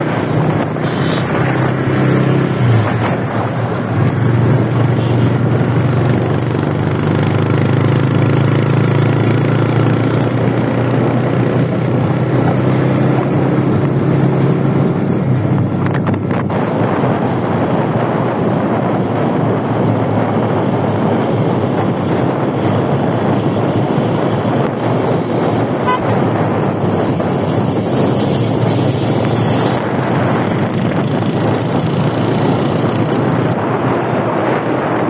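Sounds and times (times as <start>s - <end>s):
constant noisy rush: 0.0s - 35.0s
engine running steadily: 0.0s - 35.0s.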